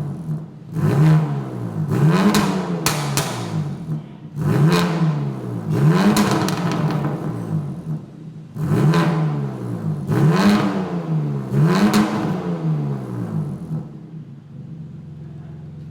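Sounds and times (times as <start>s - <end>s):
car engine revving: 0.0s - 15.1s
exhaust crackles: 0.0s - 15.9s.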